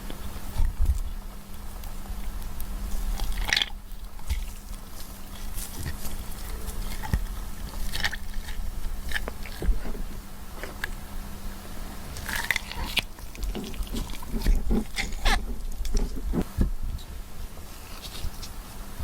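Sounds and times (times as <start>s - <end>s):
crunching and crackling by hand: 0.0s - 16.9s, 17.5s - 18.8s.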